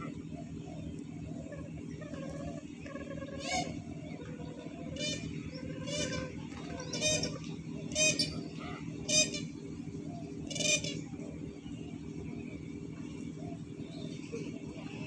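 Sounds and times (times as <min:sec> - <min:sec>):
cranes calling: 0:00.0 - 0:15.0
steady low hum: 0:00.0 - 0:15.0.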